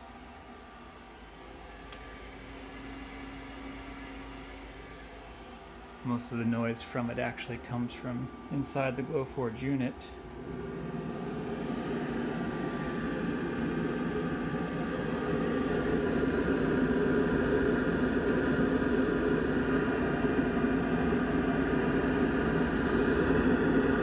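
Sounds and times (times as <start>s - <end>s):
exhaust fan rushing drone: 0.0s - 24.0s
faint steady hum: 0.0s - 24.0s.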